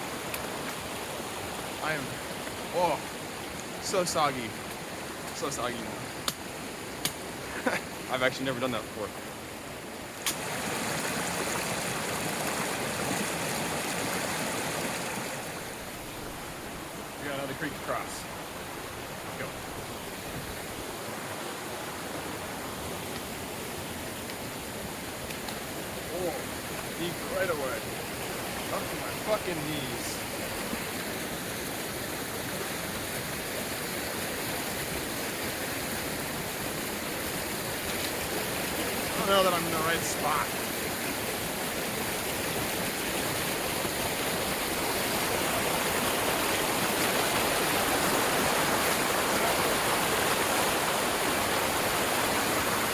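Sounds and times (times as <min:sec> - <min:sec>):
creek rushing: 0:00.0 - 0:52.9.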